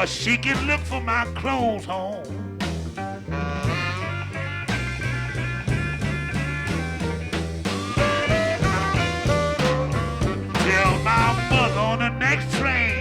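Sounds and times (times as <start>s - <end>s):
electric blues band playing: 0.0s - 13.0s.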